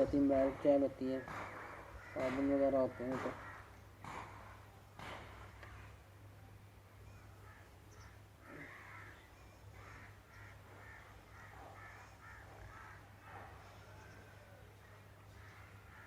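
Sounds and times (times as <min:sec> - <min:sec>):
faint bird calls: 0:01.2 - 0:16.0.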